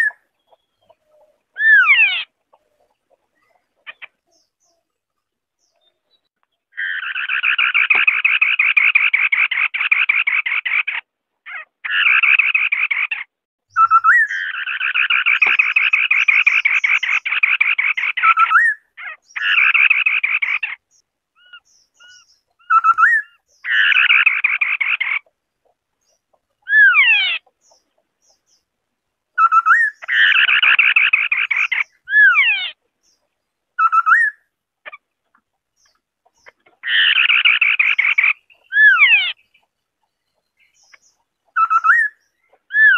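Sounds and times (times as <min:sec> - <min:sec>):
scimitar-babbler rattling calls: 0:00.0 - 0:04.8, 0:06.8 - 0:28.7, 0:29.4 - 0:39.8.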